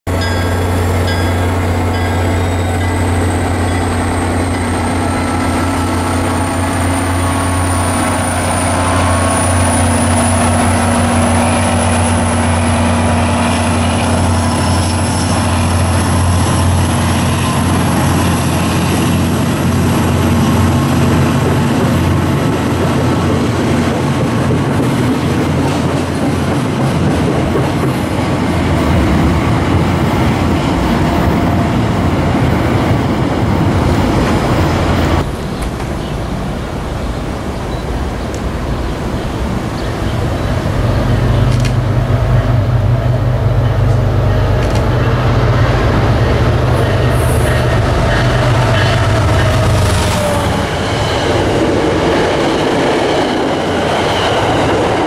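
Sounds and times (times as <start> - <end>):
diesel locomotive engine hum: 0.1 - 55.0
train cars rumbling on rails: 0.1 - 55.0.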